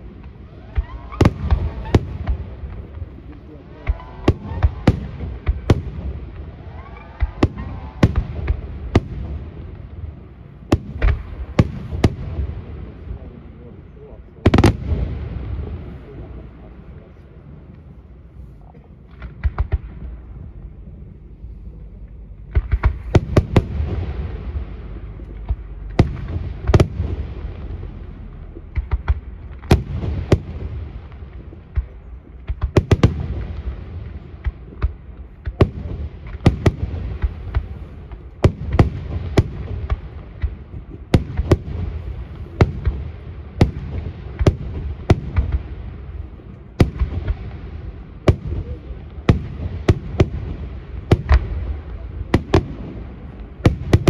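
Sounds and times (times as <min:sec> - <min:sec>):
fireworks bangs: 0:00.0 - 0:21.0, 0:22.2 - 0:54.0
continuous low rumble: 0:00.0 - 0:54.0.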